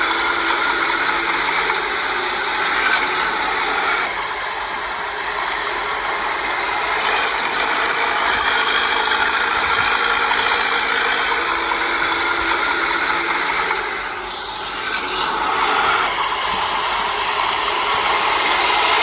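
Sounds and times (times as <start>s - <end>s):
steel tracks clattering: 0.0s - 19.0s.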